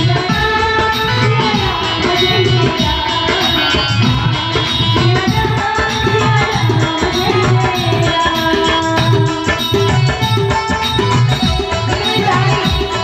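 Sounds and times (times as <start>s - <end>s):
loud music over sound system: 0.0s - 13.0s.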